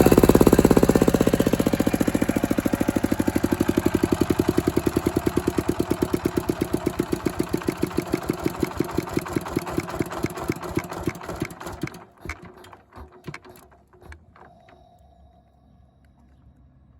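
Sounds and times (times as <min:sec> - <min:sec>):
diesel engine running down: 0:00.0 - 0:15.0.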